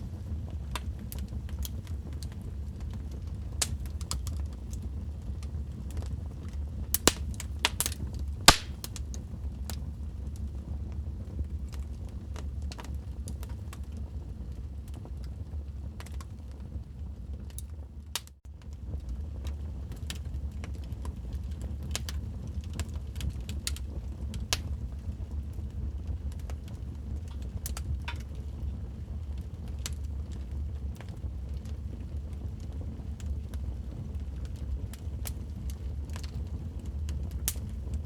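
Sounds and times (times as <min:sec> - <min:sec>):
fire crackling in a fireplace: 0:00.0 - 0:38.0.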